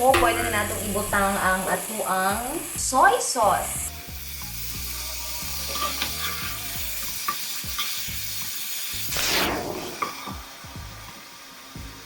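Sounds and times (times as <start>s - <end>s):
chicken sizzling in oil: 0.0s - 12.0s
loud hiss: 0.0s - 12.0s.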